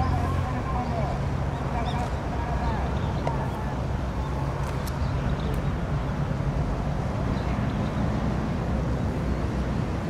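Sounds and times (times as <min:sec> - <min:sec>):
ship diesel engine rumble: 0:00.0 - 0:10.0.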